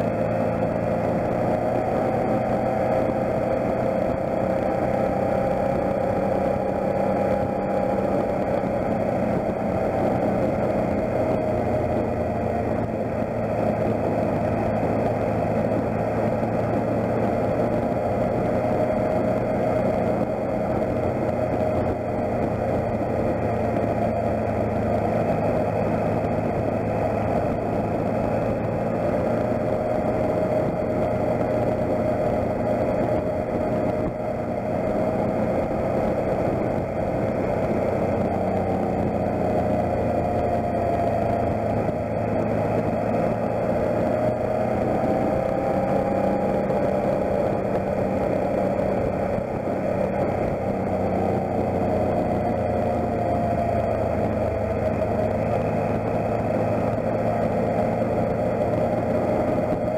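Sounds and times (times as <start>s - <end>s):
motorcycle engine cruising: 0.0s - 59.9s
tyre noise on wet road: 0.0s - 59.9s
wind noise: 0.0s - 59.9s.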